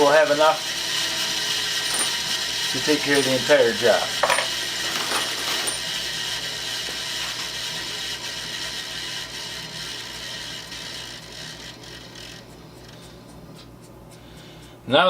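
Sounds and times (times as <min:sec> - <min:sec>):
grinder motor coasting down: 0:00.0 - 0:13.0.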